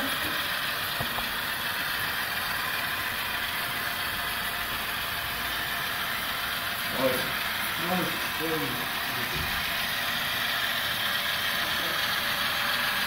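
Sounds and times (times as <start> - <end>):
model train mechanical whir: 0.0 - 13.0.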